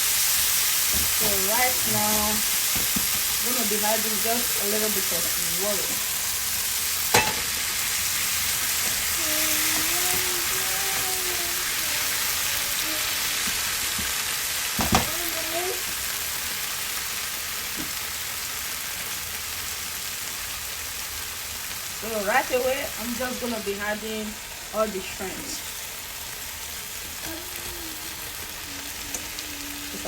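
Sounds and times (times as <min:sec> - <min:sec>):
sauce sizzling in a frying pan: 0:00.0 - 0:30.0.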